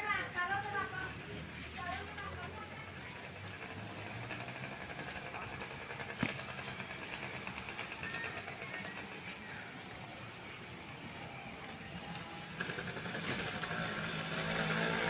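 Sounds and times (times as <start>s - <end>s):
faint voices: 0.0s - 15.0s
vehicle running: 0.0s - 15.0s.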